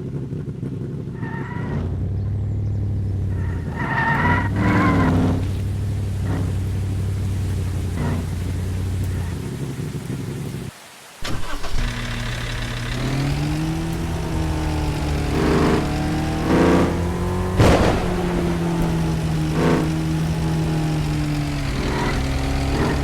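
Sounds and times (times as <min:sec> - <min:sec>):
truck engine running: 0:00.0 - 0:10.6, 0:11.2 - 0:23.0.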